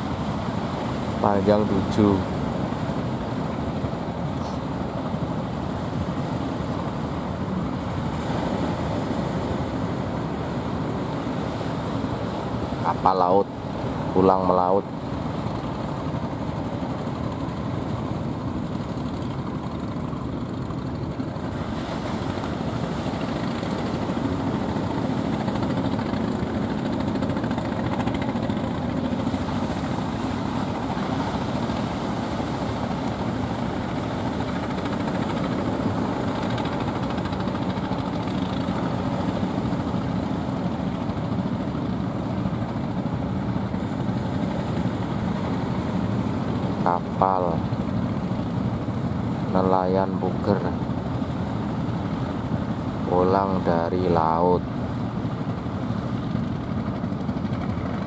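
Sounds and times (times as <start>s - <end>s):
boat motors droning: 0.0s - 58.0s.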